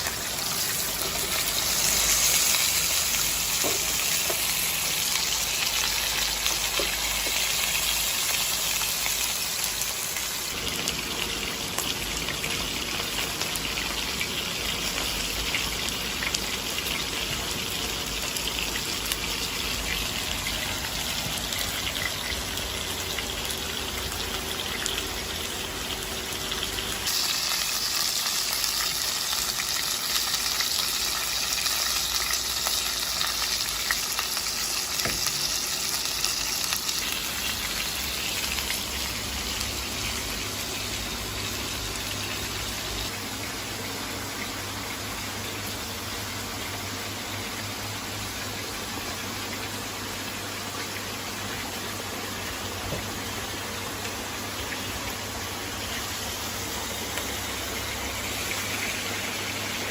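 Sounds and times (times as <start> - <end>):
steak sizzling in a frying pan: 0.0 - 59.9.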